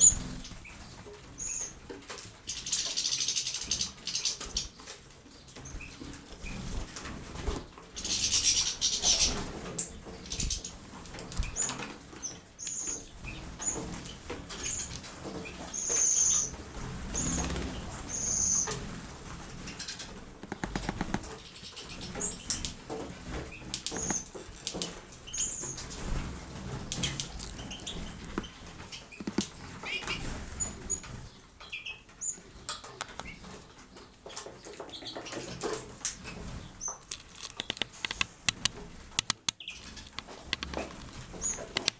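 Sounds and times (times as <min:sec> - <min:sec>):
birds fluttering and splashing: 0:00.0 - 0:41.9.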